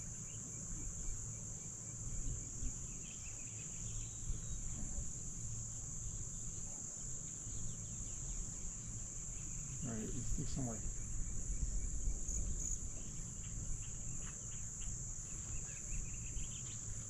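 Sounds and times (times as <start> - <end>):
insect chorus droning: 0.0 - 17.0
low uneven rumble: 0.0 - 17.0.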